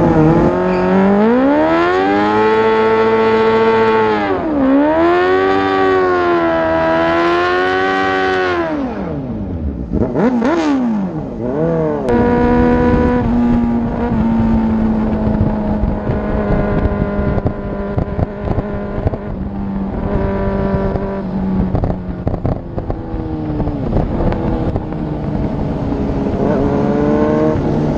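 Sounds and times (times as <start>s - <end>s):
motorcycle engines riding: 0.0s - 27.9s
wind on microphone: 0.0s - 27.9s.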